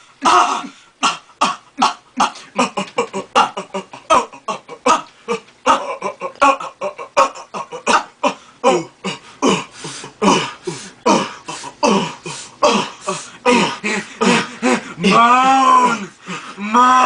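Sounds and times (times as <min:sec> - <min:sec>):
person making breathy throaty noises: 0:00.0 - 0:15.0.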